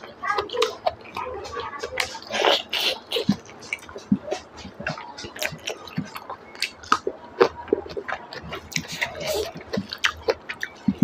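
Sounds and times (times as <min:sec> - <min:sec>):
wet chewing and lip-smacking: 0:00.0 - 0:11.0.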